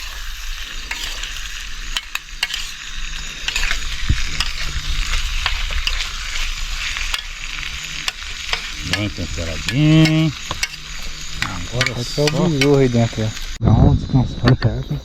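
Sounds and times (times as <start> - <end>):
fish frying in hot oil: 0.0 - 13.6.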